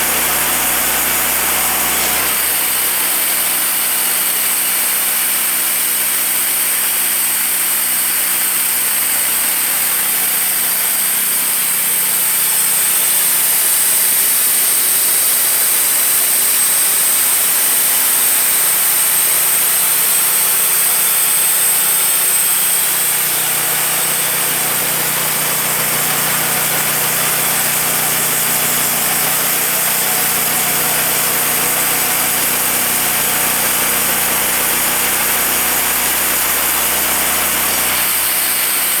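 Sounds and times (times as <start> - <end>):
sawmill engine running: 0.0 - 6.2, 12.0 - 39.0.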